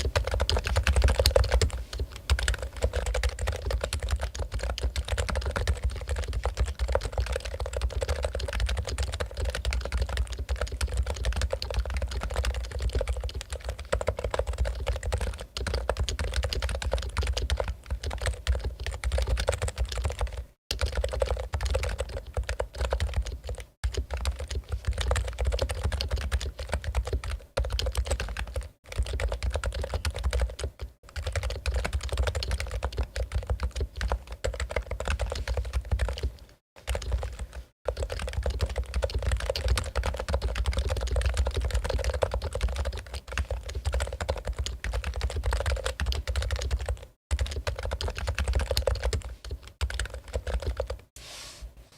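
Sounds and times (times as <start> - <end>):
fast typing on a keyboard: 0.0 - 51.1.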